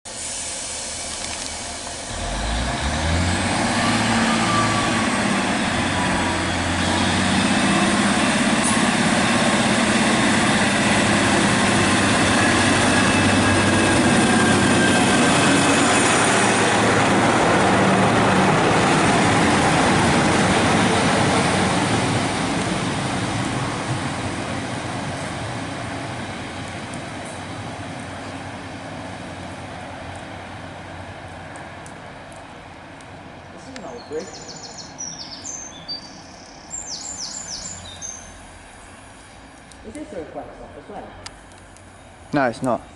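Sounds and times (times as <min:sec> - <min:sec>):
diesel train rumbling: 0:00.1 - 0:42.9.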